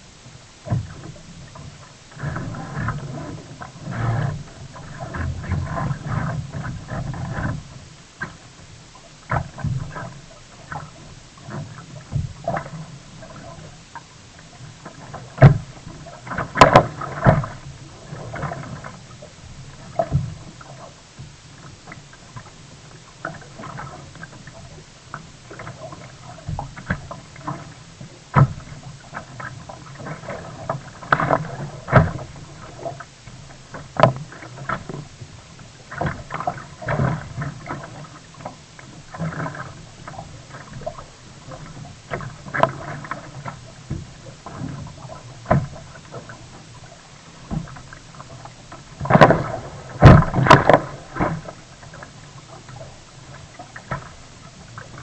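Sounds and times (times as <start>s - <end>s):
kayak paddle splashes: 0.0s - 55.0s.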